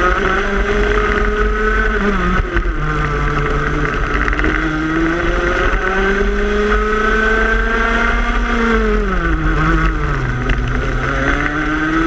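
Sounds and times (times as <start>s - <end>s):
go-kart engine at speed: 0.0s - 12.0s.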